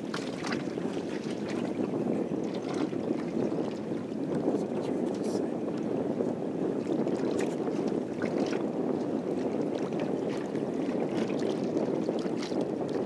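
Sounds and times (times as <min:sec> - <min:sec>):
water slapping boat hull: 0:00.0 - 0:13.0
wind: 0:00.0 - 0:13.0.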